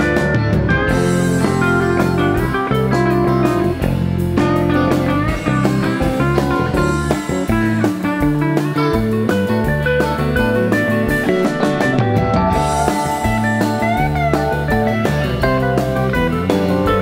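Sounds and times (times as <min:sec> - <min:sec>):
bass guitar: 0:00.0 - 0:17.0
drums: 0:00.0 - 0:17.0
electric guitar lines: 0:00.0 - 0:17.0.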